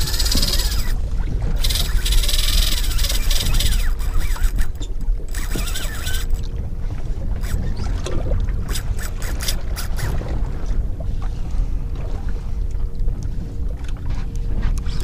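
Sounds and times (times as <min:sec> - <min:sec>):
water lapping against boat hull: 0:00.0 - 0:15.0
wind rumbling on microphone: 0:00.0 - 0:15.0.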